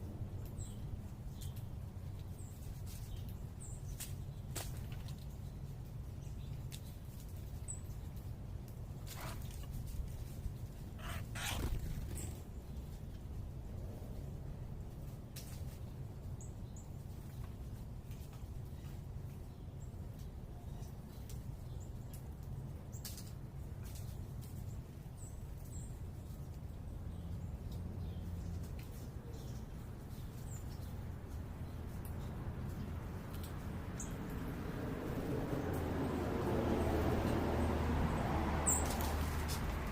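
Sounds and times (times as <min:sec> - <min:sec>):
low urban background rumble: 0:00.0 - 0:39.9.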